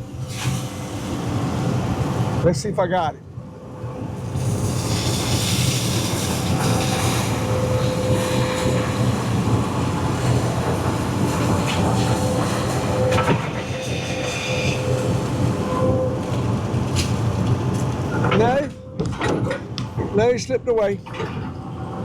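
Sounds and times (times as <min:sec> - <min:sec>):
hydraulic whine: 0:04.2 - 0:22.0.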